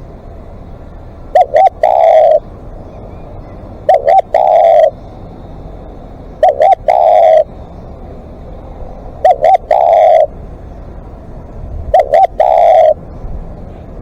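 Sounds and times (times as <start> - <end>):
dove cooing: 1.0 - 13.8.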